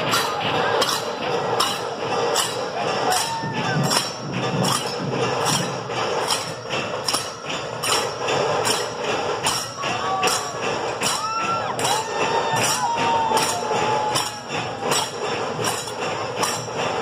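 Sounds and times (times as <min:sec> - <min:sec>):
drumming: 0:00.0 - 0:17.0.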